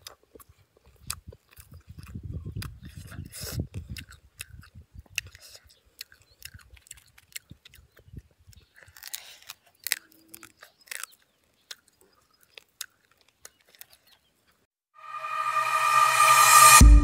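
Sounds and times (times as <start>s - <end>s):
mouth chewing meat: 0.0s - 14.3s.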